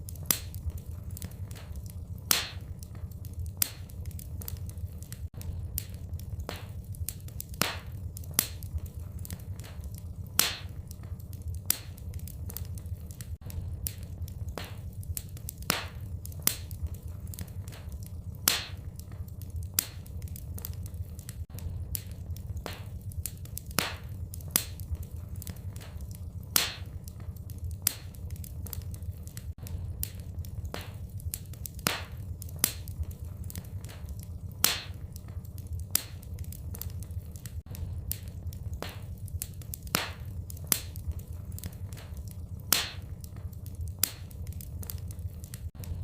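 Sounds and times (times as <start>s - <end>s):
fireplace fire crackling: 0.0s - 46.0s
low steady rumble: 0.0s - 46.0s
sharp pops and snaps: 0.0s - 46.0s.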